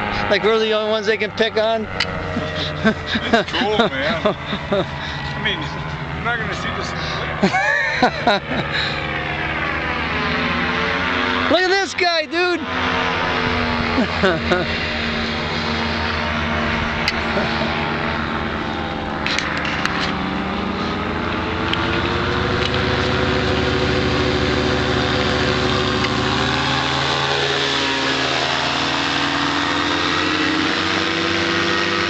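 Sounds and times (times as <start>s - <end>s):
light aircraft droning past: 0.0s - 32.0s.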